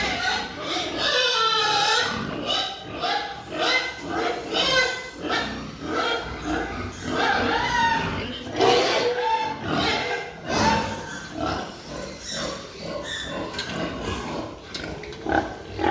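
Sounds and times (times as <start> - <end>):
pigs grunting and squealing: 0.0 - 15.9.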